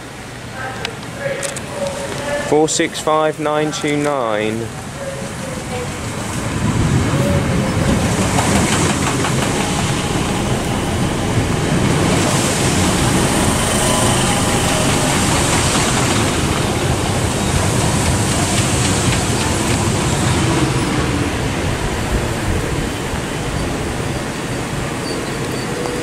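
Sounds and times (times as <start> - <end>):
train wheels rumbling on rails: 1.0 - 26.0.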